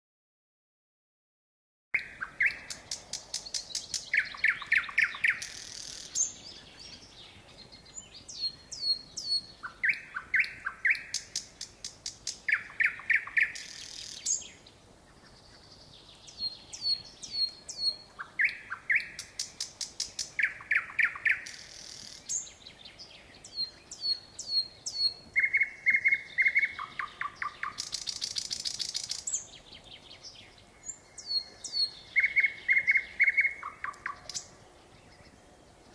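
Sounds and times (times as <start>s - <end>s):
nightingale singing: 2.0s - 35.9s.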